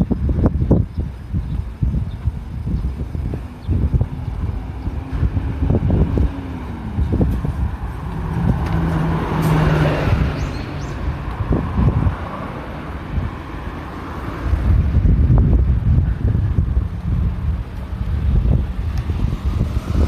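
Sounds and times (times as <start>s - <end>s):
bus passing by: 0.0s - 20.0s.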